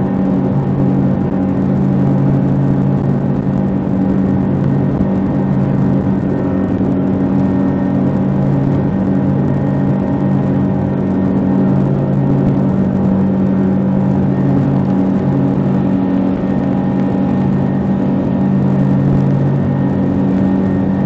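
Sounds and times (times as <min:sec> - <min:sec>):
outboard engine running fast: 0:00.0 - 0:21.0
wind buffeting microphone: 0:00.0 - 0:21.0.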